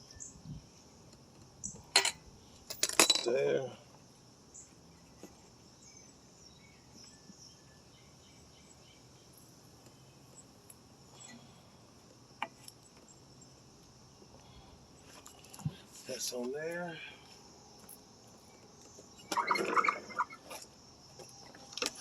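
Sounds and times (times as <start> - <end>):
faint insect chirping: 0.0 - 22.0.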